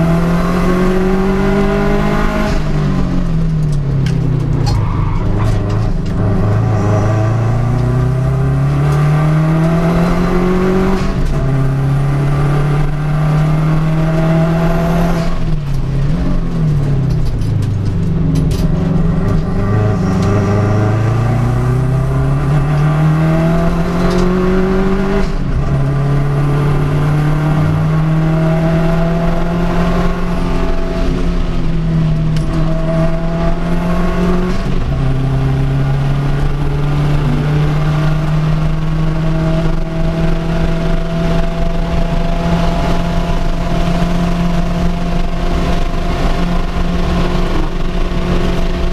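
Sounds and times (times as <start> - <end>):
race car engines at full throttle: 0.0 - 48.9.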